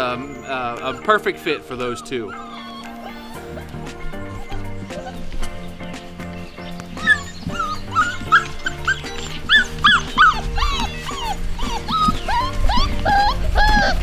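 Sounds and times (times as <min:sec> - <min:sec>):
background music: 0:00.0 - 0:14.0
puppies whimpering and yipping: 0:00.0 - 0:14.0.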